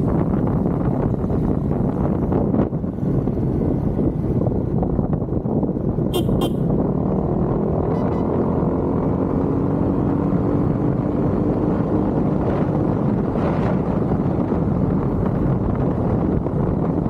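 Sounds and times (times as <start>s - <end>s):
motorcycle engine drone: 0.0s - 17.0s
wind rushing over microphone: 0.0s - 17.0s.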